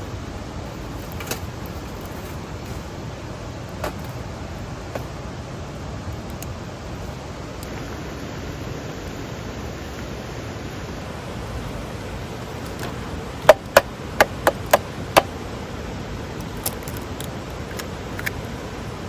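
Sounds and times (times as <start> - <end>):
rushing background noise: 0.0 - 19.0.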